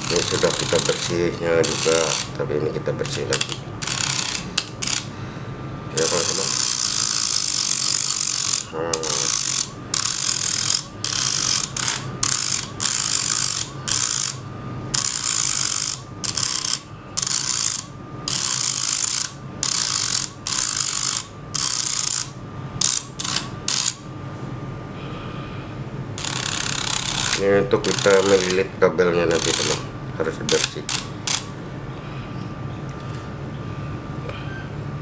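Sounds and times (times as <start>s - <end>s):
abrasive bit grinding metal: 0.0s - 5.1s, 5.9s - 24.1s, 26.2s - 31.5s
rotary tool whining: 0.0s - 5.1s, 5.9s - 24.0s, 26.2s - 31.5s.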